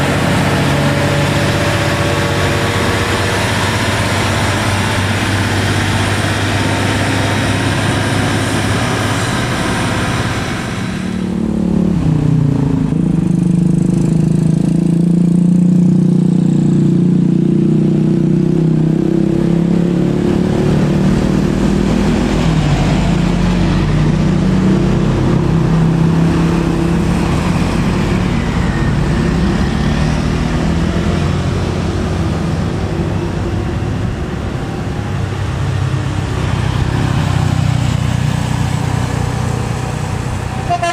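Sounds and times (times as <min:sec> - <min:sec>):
diesel truck engine labouring: 0:00.0 - 0:40.9
traffic noise: 0:00.0 - 0:40.9.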